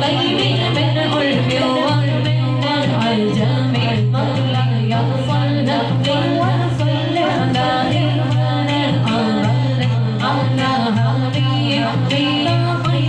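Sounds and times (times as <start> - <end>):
light steady beat: 0.0 - 13.0
women singing devotional song: 0.0 - 13.0.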